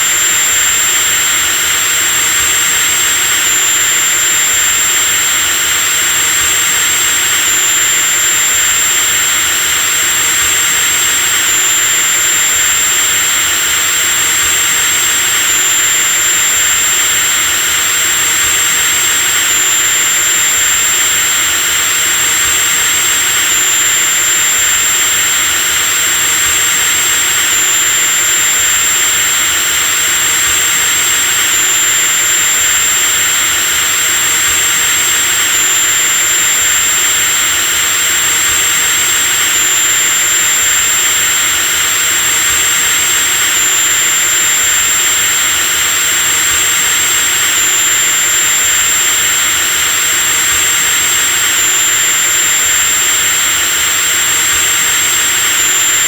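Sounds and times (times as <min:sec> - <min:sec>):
electric drill running: 0:00.0 - 0:56.0.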